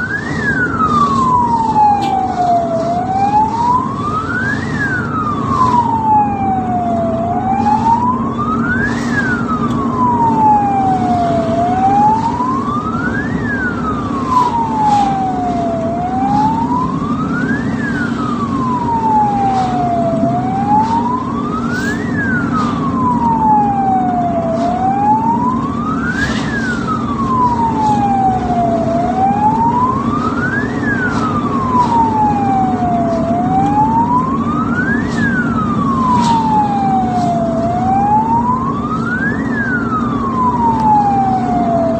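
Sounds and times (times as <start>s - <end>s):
ambulance siren wailing: 0.0s - 41.9s
low drone of moving vehicle: 0.0s - 41.9s.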